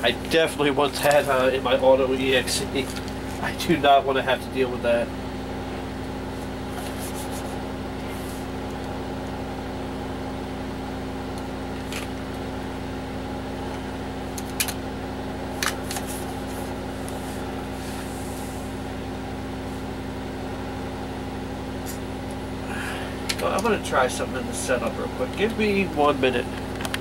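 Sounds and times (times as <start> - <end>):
computer fans humming: 0.0 - 27.0.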